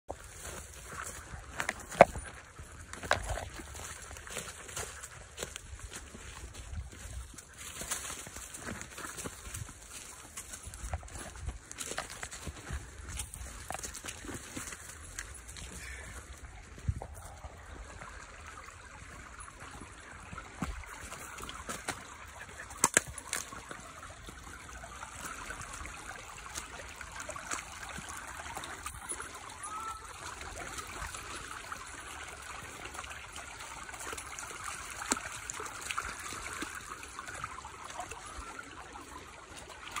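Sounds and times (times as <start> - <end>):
water trickling in a stream: 0.1 - 40.0.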